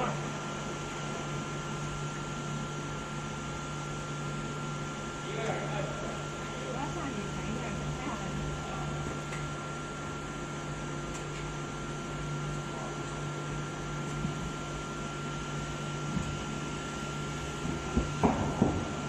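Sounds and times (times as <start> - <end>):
industrial machinery humming: 0.0 - 19.0.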